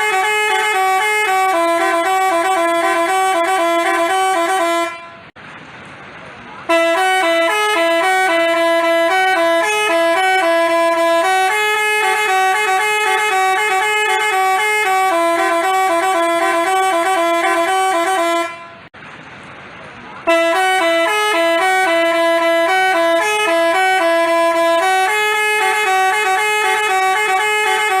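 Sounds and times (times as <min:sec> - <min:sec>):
multi-tone musical horn: 0:00.0 - 0:05.3, 0:06.7 - 0:18.9, 0:20.3 - 0:28.0.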